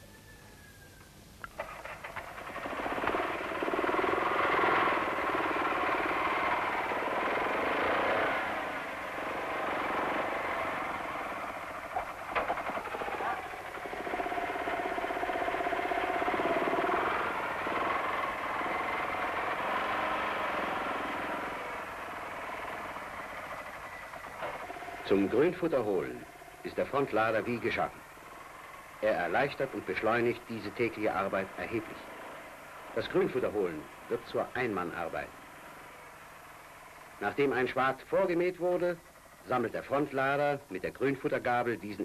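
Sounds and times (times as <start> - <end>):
tractor diesel engine running: 1.4 - 42.0
mower cutting grass: 1.6 - 42.0.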